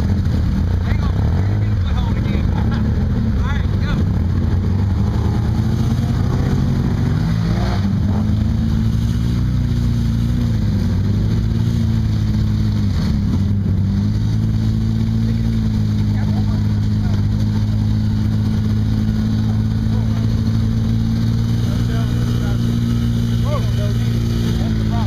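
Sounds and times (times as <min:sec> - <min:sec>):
off-road vehicle engine under load: 0:00.0 - 0:25.0.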